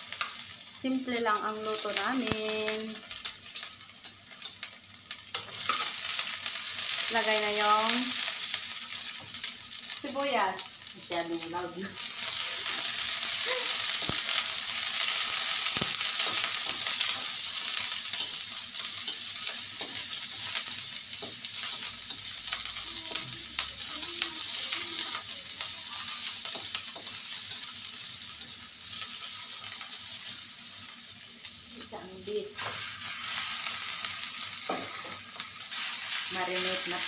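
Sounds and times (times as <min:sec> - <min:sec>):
onions sizzling in hot oil: 0:00.0 - 0:37.0.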